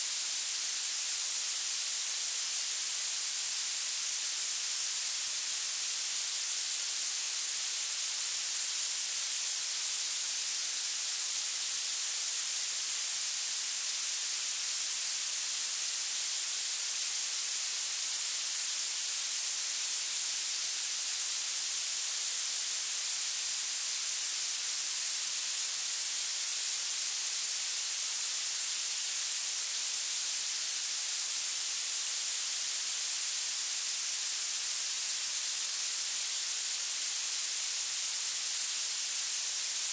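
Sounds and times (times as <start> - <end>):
violet noise hiss: 0.0 - 39.9.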